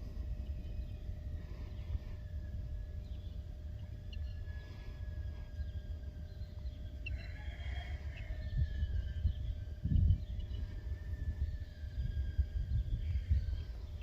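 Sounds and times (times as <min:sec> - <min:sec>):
wind buffeting microphone: 0:00.0 - 0:14.0
faint bird chirps: 0:00.2 - 0:14.0.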